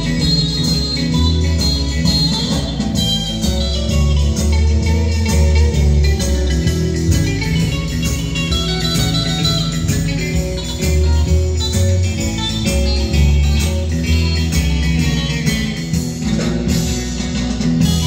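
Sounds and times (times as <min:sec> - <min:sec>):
guitar music with bass line: 0:00.0 - 0:18.0.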